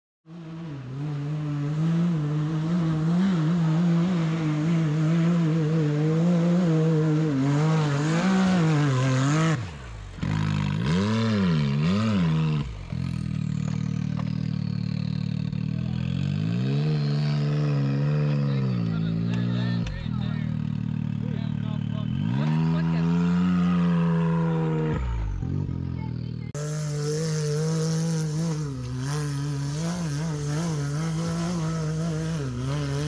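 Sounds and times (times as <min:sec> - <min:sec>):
utility vehicle engine under load: 0:00.3 - 0:33.0.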